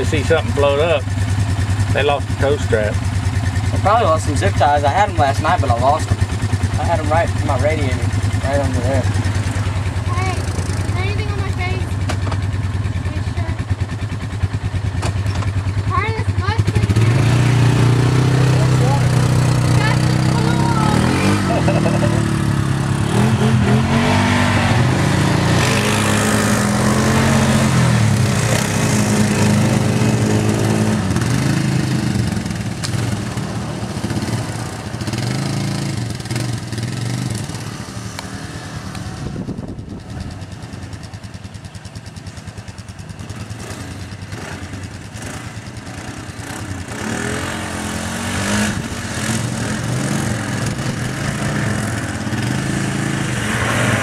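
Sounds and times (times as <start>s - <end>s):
engine revving: 3.6s - 11.8s, 15.0s - 40.7s, 43.2s - 54.0s.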